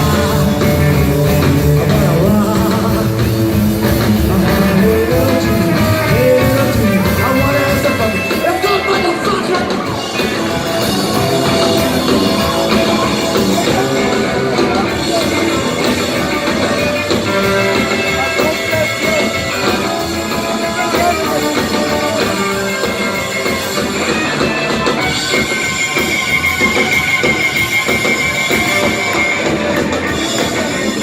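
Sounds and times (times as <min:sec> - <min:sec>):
drum kit: 0:00.0 - 0:31.0
lead electric guitar: 0:00.0 - 0:31.0
rockabilly band instrumental: 0:00.0 - 0:31.0.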